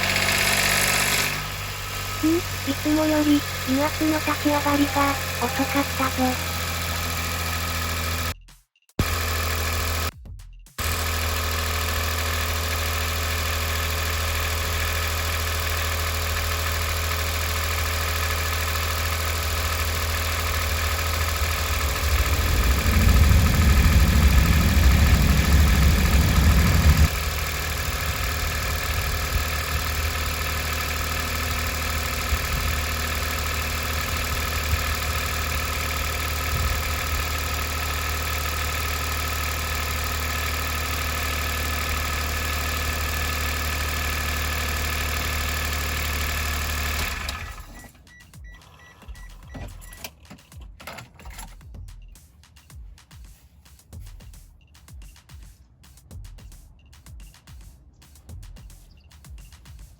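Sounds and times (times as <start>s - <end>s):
small engine idling: 0.0s - 8.4s, 9.0s - 10.1s, 10.8s - 50.0s.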